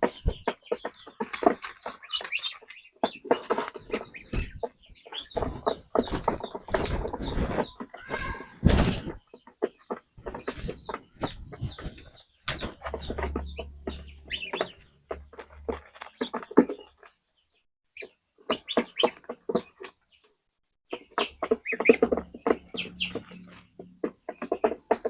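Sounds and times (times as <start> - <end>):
scratching and clattering: 0.0 - 17.2, 20.9 - 25.0
chickens clucking and peeping: 0.0 - 17.4, 18.0 - 20.3, 20.9 - 25.0.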